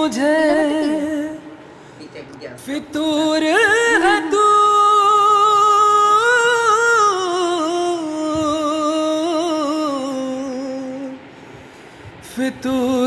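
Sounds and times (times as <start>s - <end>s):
person singing with vibrato: 0.0s - 2.0s, 2.6s - 11.4s, 12.2s - 13.0s.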